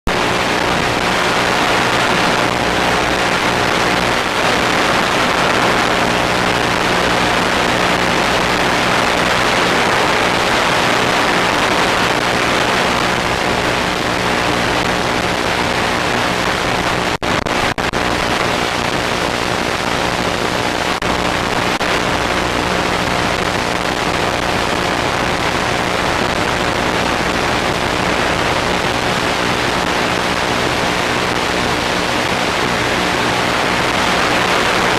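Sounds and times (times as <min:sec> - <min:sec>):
loud static hiss: 0:00.1 - 0:34.9.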